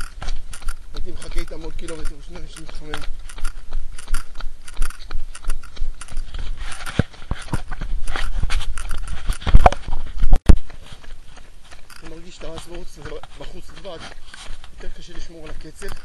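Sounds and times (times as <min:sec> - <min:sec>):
microphone handling knocks and clicks: 0:00.0 - 0:16.0
microphone rubbing on clothing: 0:00.0 - 0:16.0.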